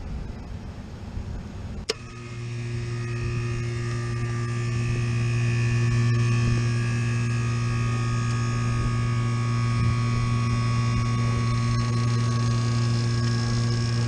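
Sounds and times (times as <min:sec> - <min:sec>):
hvac unit humming: 0:00.0 - 0:14.0.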